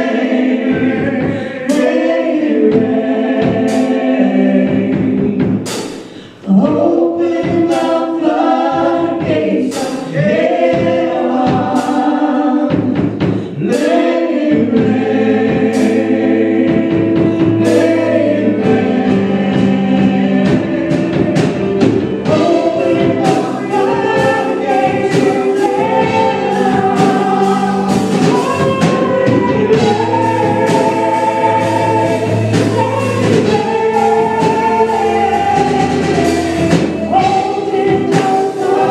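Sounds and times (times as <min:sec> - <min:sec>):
gospel choir singing with band: 0:00.0 - 0:38.9
steady drum beat: 0:00.0 - 0:38.9.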